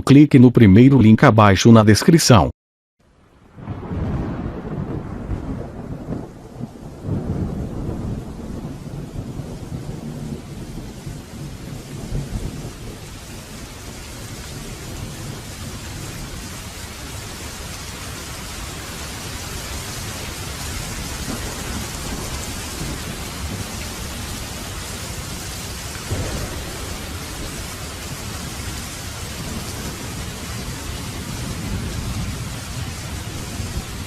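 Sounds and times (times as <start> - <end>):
heavy rain falling: 3.1 - 34.0
low rumble of thunder: 3.4 - 34.0.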